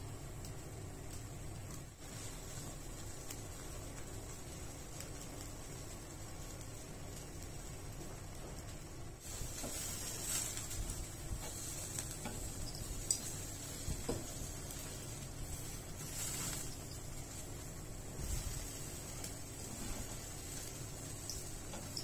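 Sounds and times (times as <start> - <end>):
gas burner flame rushing: 0.0 - 22.0
meat sizzling: 0.0 - 22.0.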